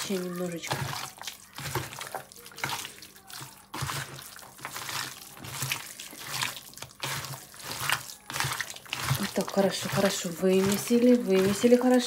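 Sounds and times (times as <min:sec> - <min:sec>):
wet squelching of kneaded meat: 0:00.0 - 0:12.0.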